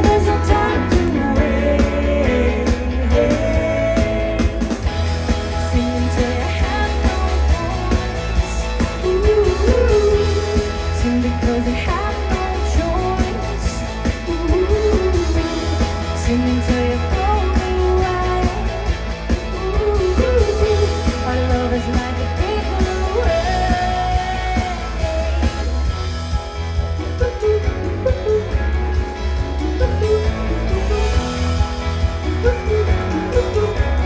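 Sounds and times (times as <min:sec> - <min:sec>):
heavy pulsing bass line: 0:00.0 - 0:34.0
indie pop band playing live: 0:00.0 - 0:34.0.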